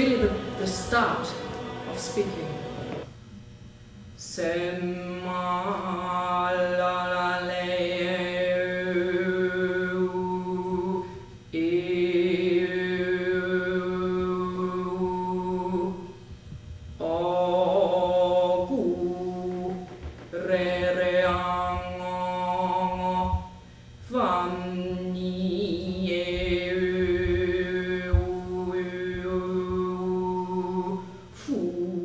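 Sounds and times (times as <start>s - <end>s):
woman overtone singing: 0.0s - 3.1s, 4.2s - 16.3s, 17.0s - 32.0s.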